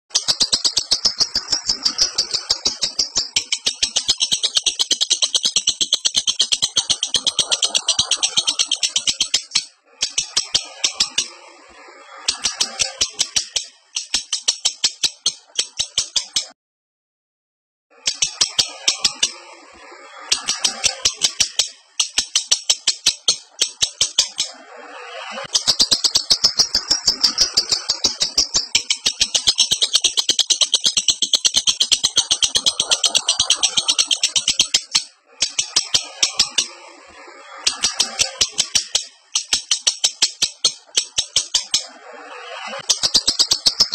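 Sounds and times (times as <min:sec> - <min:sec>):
bird chattering high ticking notes: 0:00.1 - 0:11.5, 0:12.1 - 0:16.5, 0:18.0 - 0:19.6, 0:20.2 - 0:36.8, 0:37.6 - 0:43.9.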